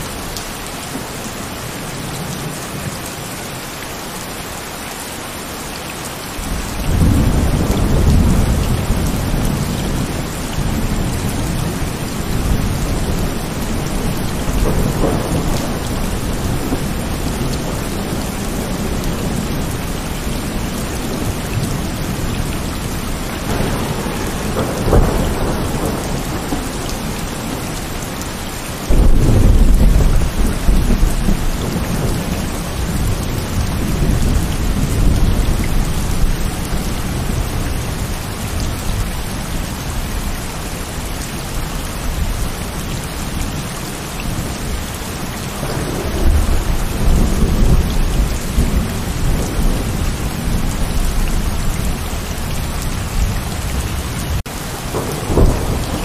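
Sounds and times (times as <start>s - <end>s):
heavy rain falling: 0.0s - 56.0s
thunder rumbling: 6.4s - 42.8s, 44.4s - 56.0s.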